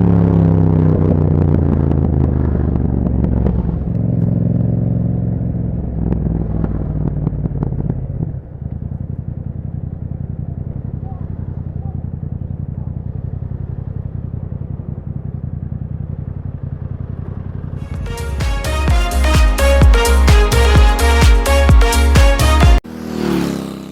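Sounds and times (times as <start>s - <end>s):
exhaust crackles: 0.0s - 23.9s
motorcycle engine winding down: 0.0s - 23.9s.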